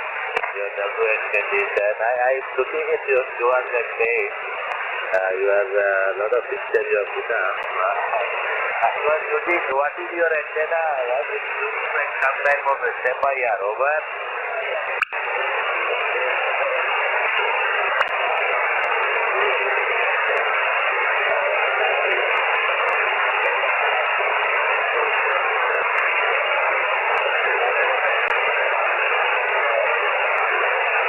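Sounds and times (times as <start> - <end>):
radio receiver hissing: 0.0 - 31.0.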